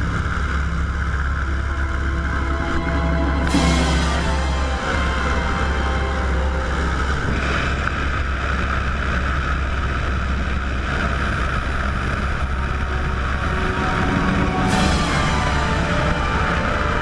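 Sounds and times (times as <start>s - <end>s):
biplane engine and propeller drone: 0.0s - 17.0s
wind rush on microphone: 0.0s - 17.0s.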